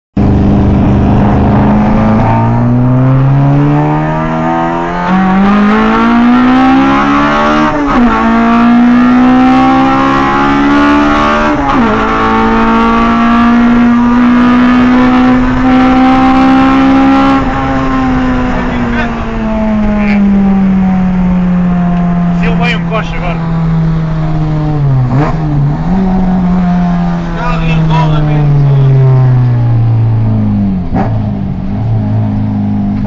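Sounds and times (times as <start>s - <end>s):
car engine accelerating hard: 0.2s - 33.0s.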